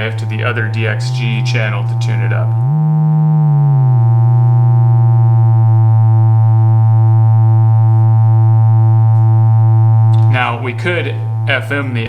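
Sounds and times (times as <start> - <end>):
pulsing low synth oscillator tone: 0.0 - 12.0.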